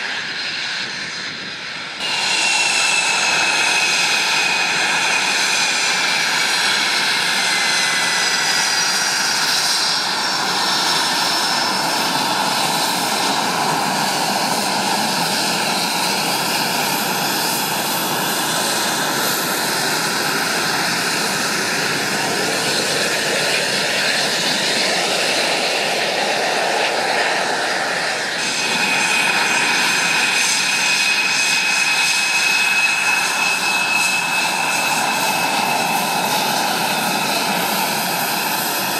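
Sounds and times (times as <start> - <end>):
jet engine running at low power: 0.0 - 38.9.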